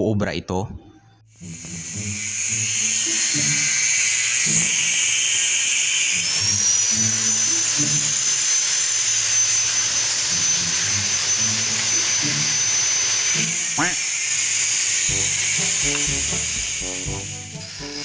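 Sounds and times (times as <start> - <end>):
power tool whine: 1.3 - 18.0.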